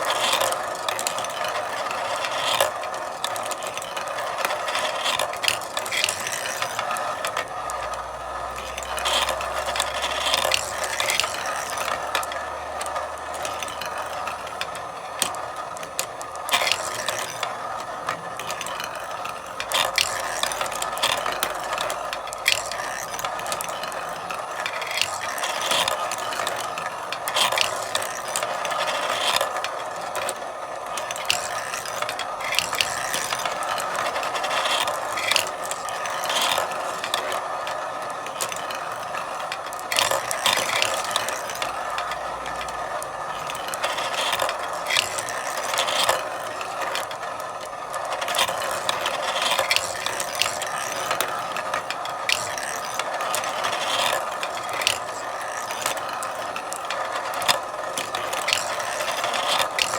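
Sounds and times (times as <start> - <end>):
marbles clicking together: 0.0 - 59.9
marbles rolling through marble run: 0.0 - 59.9.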